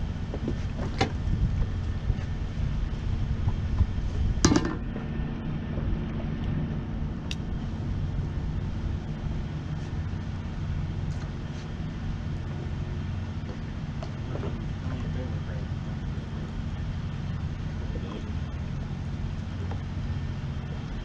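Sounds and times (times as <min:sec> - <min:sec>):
low engine hum: 0:00.0 - 0:21.0
wind on microphone: 0:00.0 - 0:21.0.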